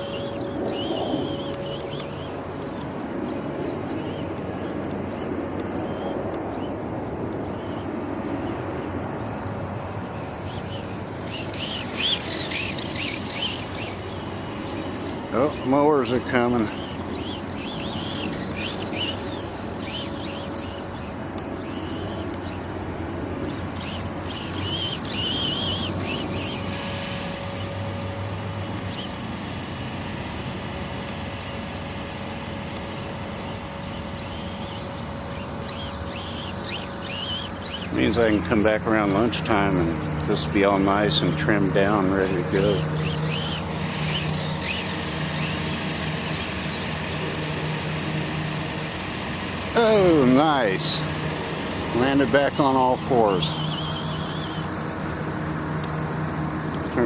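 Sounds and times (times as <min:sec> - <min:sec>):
mowers droning: 0:00.0 - 0:57.0
short rising and falling whines: 0:00.0 - 0:57.0
small birds chirping: 0:00.0 - 0:57.0.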